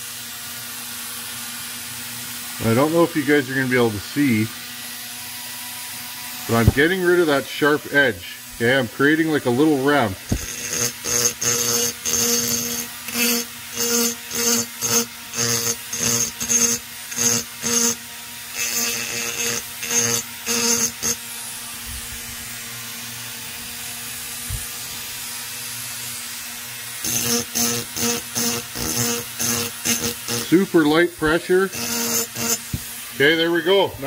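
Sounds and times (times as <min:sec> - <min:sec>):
rotary tool humming: 0:00.0 - 0:34.0
bit grinding metal: 0:06.0 - 0:34.0.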